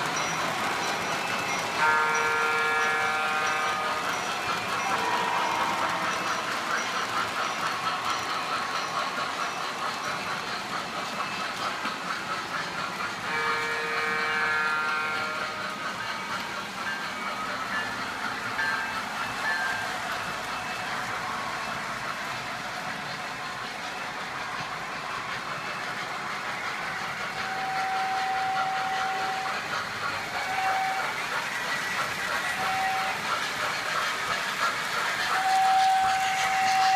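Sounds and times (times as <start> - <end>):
model trains rumbling on track: 0.0 - 36.9
multi-note train signal: 0.0 - 36.9.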